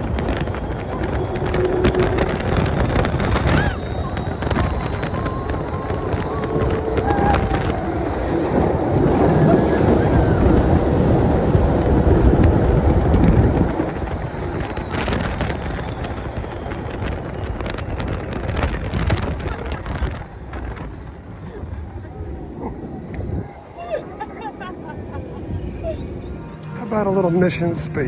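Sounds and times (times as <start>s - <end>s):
ride vehicle rumble: 0.0s - 28.0s
wind rushing over microphone: 0.0s - 28.0s.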